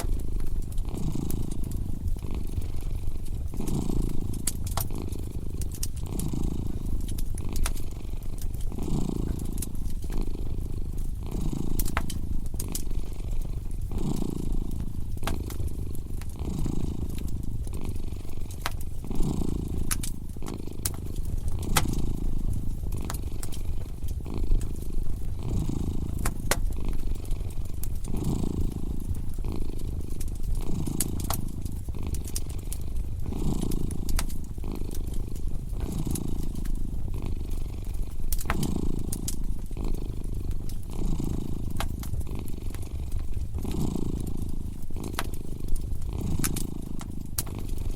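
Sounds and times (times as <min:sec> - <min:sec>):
cat purring: 0:00.0 - 0:47.9
fireplace crackling and popping: 0:00.0 - 0:47.9.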